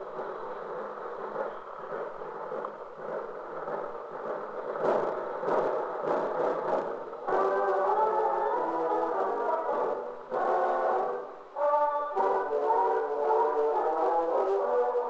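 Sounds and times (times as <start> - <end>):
drum beats: 0.0 - 15.0
marchers and crowd rustle: 0.0 - 15.0.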